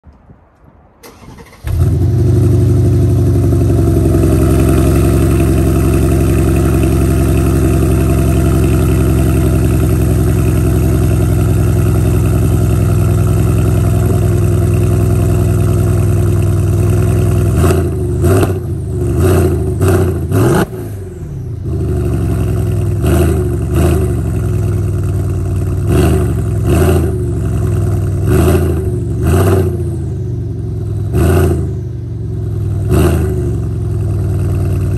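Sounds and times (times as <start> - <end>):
car engine starting and revving: 1.0 - 34.9.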